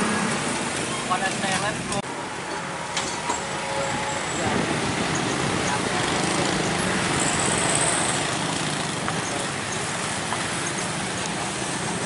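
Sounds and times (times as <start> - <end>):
diesel truck engine passing: 0.0 - 12.0
road traffic noise: 0.0 - 12.0.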